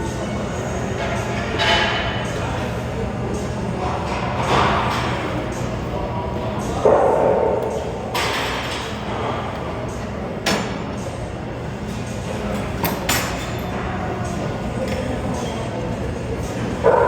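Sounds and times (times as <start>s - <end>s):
gym background noise: 0.0s - 17.0s.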